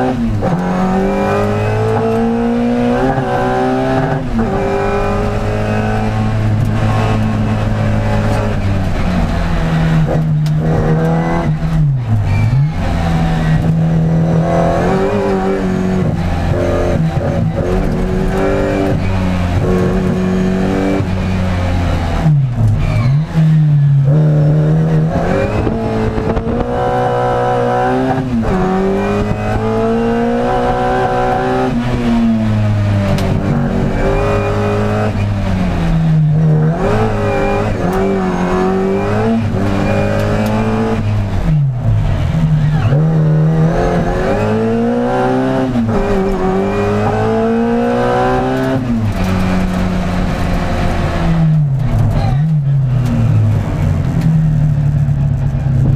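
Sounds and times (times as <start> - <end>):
car engine revving at full throttle: 0.0 - 55.9.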